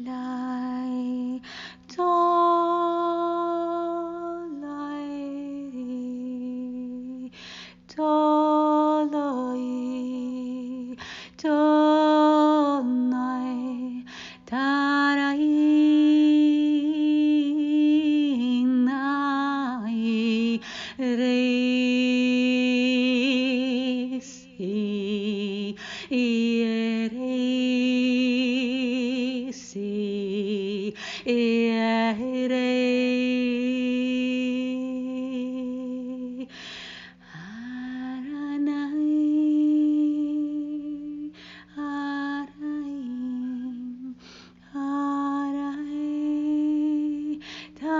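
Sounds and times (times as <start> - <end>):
woman singing wordless notes: 0.0 - 36.6, 37.2 - 47.9.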